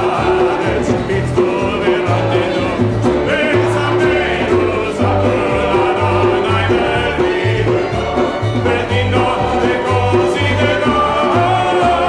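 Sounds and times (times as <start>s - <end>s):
acoustic guitar: 0.0s - 12.0s
double bass: 0.0s - 12.0s
group singing together: 0.0s - 12.0s.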